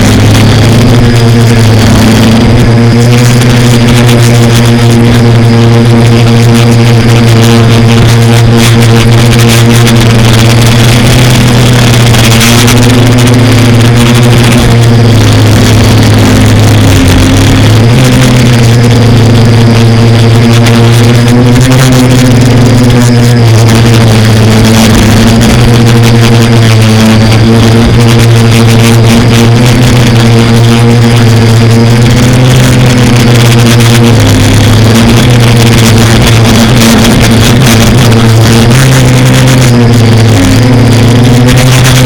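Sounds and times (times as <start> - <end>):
quadcopter propellers buzzing: 0.0 - 42.0.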